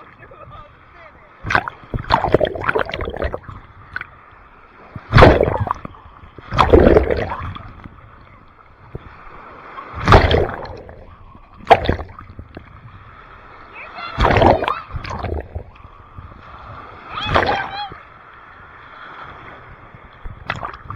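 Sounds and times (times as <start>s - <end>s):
ocean waves splashing: 0.0s - 20.9s.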